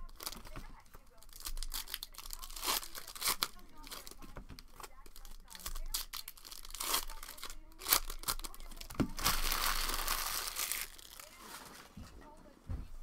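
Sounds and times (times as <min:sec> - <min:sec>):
foil pack crinkling: 0:00.0 - 0:12.0.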